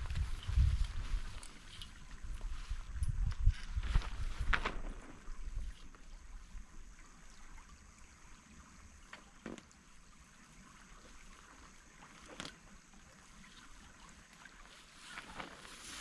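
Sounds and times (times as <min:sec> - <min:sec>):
stream running: 0:00.0 - 0:16.0.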